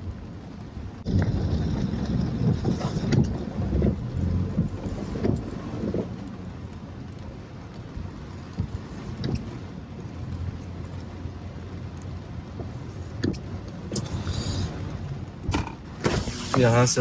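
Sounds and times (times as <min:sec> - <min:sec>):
car engine and road hum: 0:00.0 - 0:17.0.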